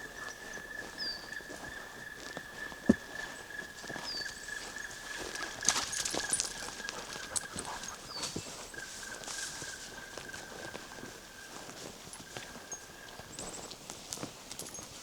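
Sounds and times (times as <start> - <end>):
footsteps on forest path: 0.0 - 15.0
twigs cracking underfoot: 1.3 - 14.8.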